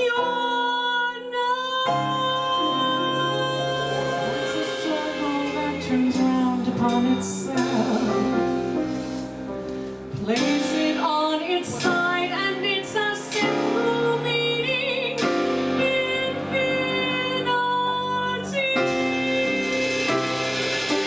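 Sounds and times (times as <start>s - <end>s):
woman singing jazz: 0.0s - 9.2s, 10.1s - 21.0s
jazz combo playing: 2.0s - 21.0s.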